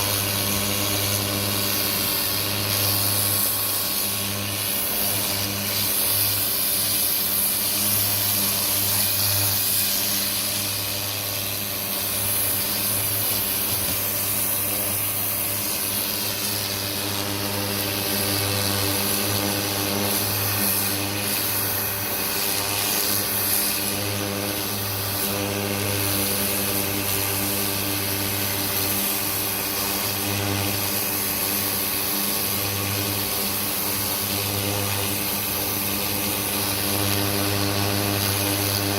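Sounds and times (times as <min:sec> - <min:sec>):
pressure washer motor humming: 0:00.0 - 0:38.9
water spray hissing: 0:00.0 - 0:38.9.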